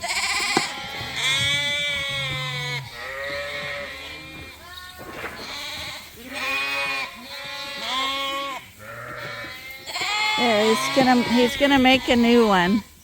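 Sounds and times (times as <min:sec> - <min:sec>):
sheep bleating: 0:00.0 - 0:12.9.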